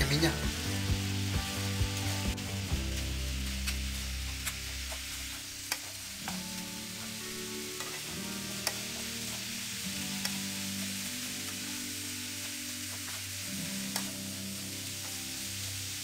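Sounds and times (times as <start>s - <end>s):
mushrooms sizzling in a frying pan: 0.0s - 16.0s.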